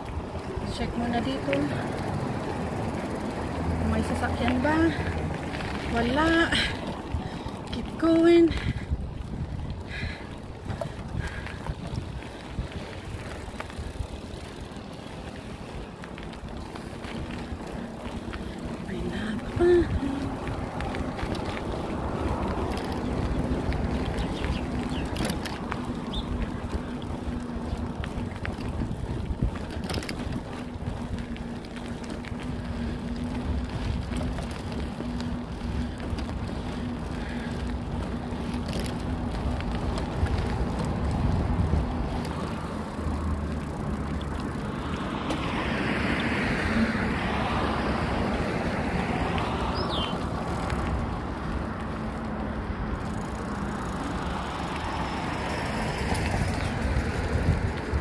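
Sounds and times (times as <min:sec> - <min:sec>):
road noise from bicycle: 0:00.0 - 0:58.0
wind buffeting microphone: 0:00.0 - 0:58.0.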